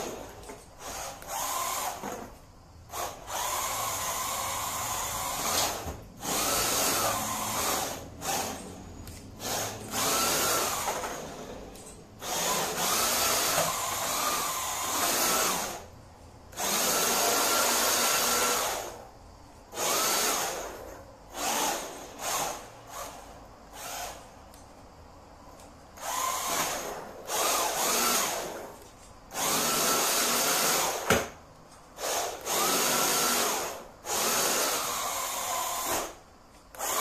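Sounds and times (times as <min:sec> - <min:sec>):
rc car motor and gears whining: 0:00.0 - 0:15.9, 0:16.5 - 0:24.6, 0:26.0 - 0:31.4, 0:32.0 - 0:37.0.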